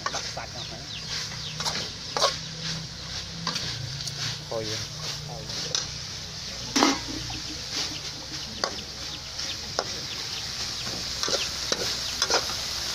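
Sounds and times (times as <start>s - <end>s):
food sizzling: 0.0s - 12.9s
metal spatula scraping wok: 0.0s - 12.9s.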